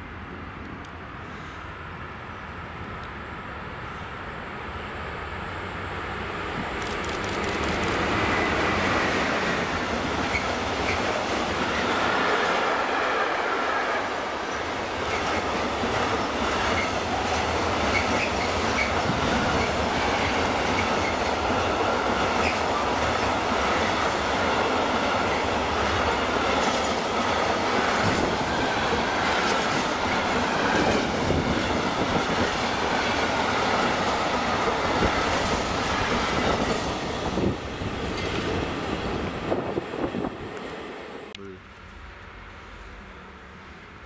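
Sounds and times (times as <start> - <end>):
train wheels rumbling on rails: 5.8 - 41.1.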